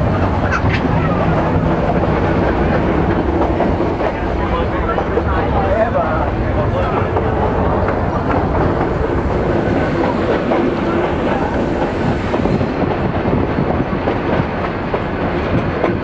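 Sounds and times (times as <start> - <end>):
train coach rolling and rattling: 0.0 - 16.0
wheels clicking on rails: 0.0 - 16.0.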